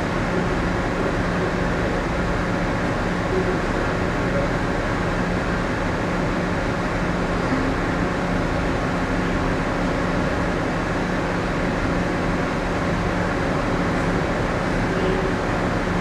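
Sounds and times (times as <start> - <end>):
ship machinery hum: 0.0 - 16.0.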